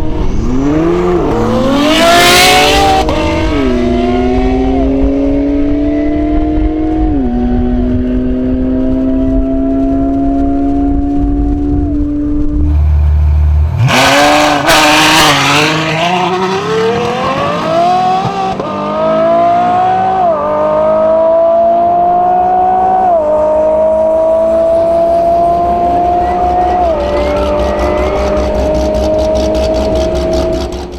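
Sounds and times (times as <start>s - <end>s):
car accelerating through gears: 0.0s - 12.5s, 13.7s - 30.9s
sports car engine revving: 0.0s - 30.9s.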